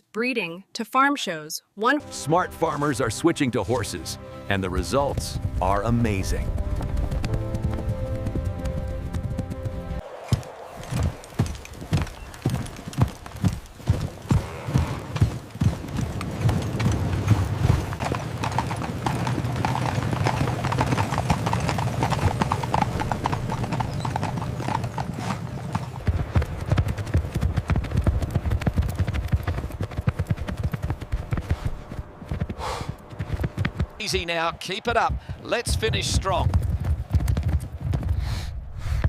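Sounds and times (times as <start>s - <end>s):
horse hooves clip-clopping: 4.6s - 38.4s.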